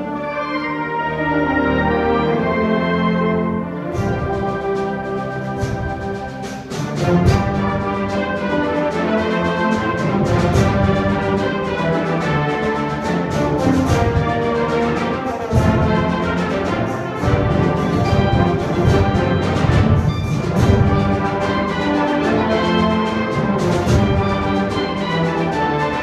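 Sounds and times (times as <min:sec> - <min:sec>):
timpani: 0:00.0 - 0:26.0
wind ensemble with brass: 0:00.0 - 0:26.0.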